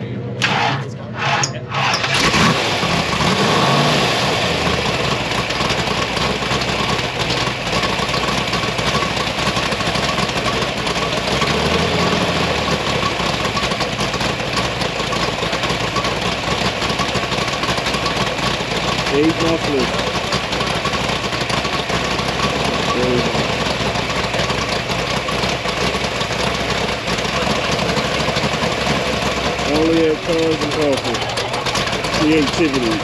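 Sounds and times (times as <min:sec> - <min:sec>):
car engine starting and running: 0:00.0 - 0:33.0.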